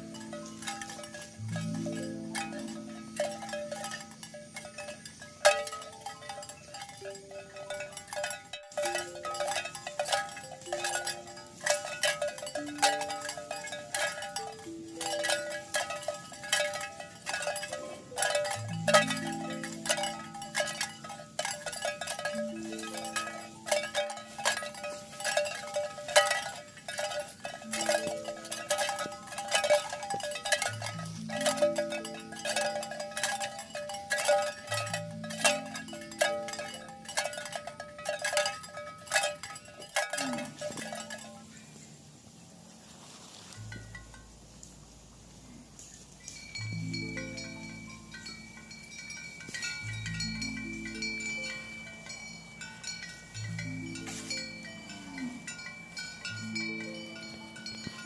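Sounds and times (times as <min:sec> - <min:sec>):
cowbells clanking: 0:00.0 - 0:58.0.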